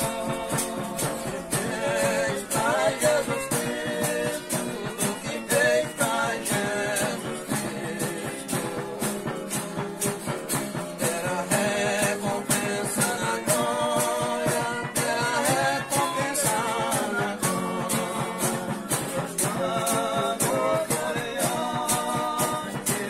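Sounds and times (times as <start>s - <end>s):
rattling percussion: 0.0s - 23.0s
voices singing: 0.0s - 23.0s.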